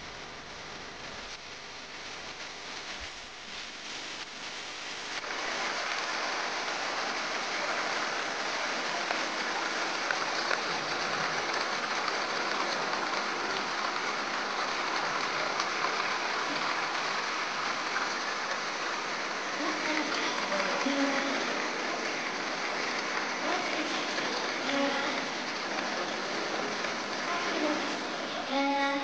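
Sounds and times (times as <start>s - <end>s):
falling splashing water: 1.8s - 29.0s.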